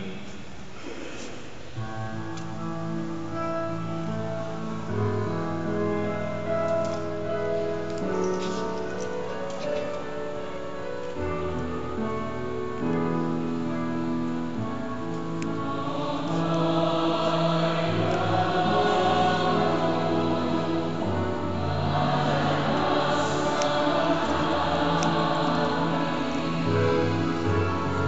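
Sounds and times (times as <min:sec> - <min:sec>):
choir singing a slow hymn: 0:01.8 - 0:28.0.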